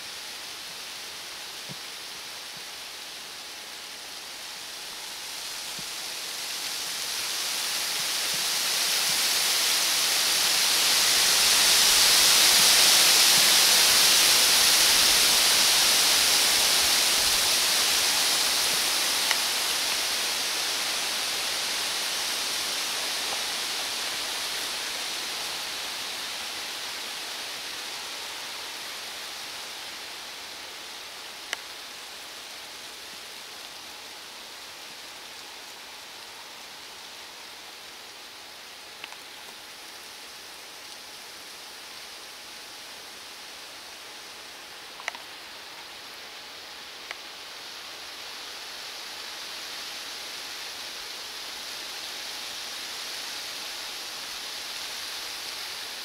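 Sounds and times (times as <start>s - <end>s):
wind hissing through leaves: 0.0s - 56.0s.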